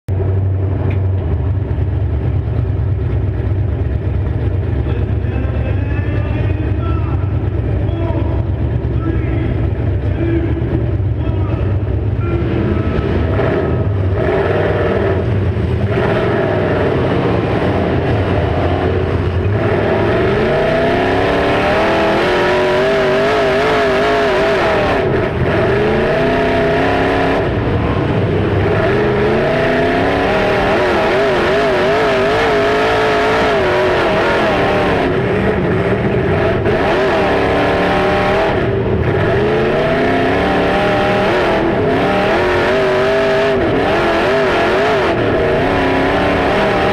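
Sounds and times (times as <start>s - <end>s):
car engines revving hard: 0.1s - 46.9s.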